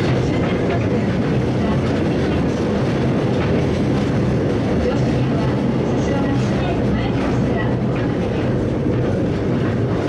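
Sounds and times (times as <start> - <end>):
tram rolling rumble: 0.0 - 10.0.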